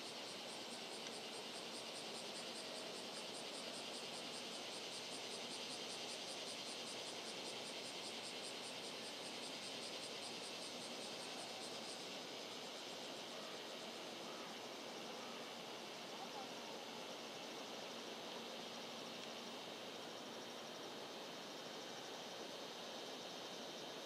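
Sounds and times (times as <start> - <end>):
insect chirping: 0.0 - 24.0
steady hiss: 0.0 - 24.0.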